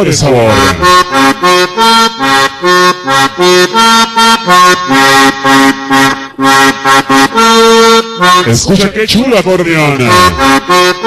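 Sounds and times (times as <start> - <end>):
accordion dance music: 0.0 - 11.0.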